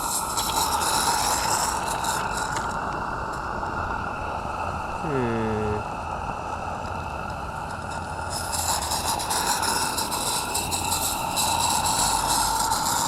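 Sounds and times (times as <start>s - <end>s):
model steam locomotive hissing: 0.0s - 5.0s, 5.8s - 13.0s
rapidly flickering rush of steam: 0.0s - 13.0s.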